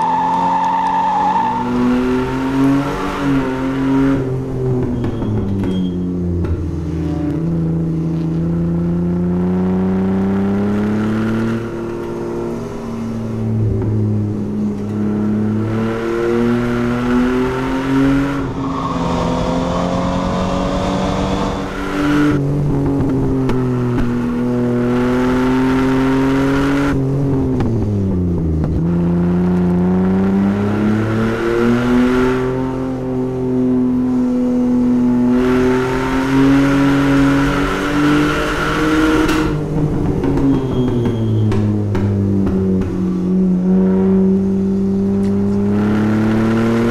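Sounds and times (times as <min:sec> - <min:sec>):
car engine under hard driving: 0:00.0 - 0:46.9.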